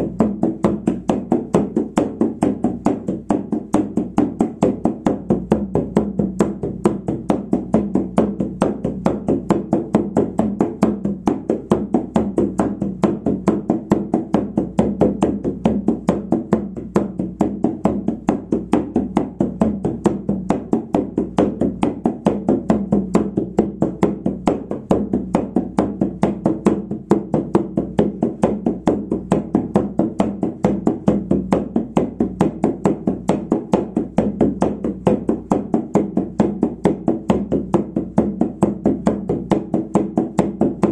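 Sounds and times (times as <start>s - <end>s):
frame drum beating: 0.0s - 40.9s.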